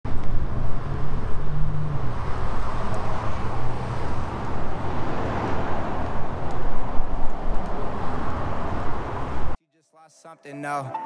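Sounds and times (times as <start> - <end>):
outdoor traffic noise: 0.0 - 9.6.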